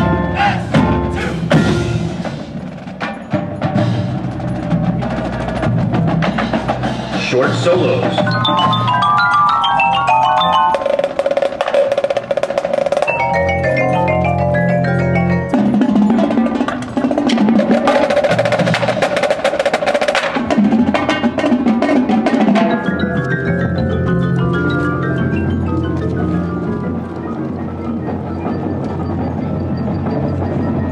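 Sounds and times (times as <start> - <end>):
marimbas playing fast passages: 0.0 - 30.9.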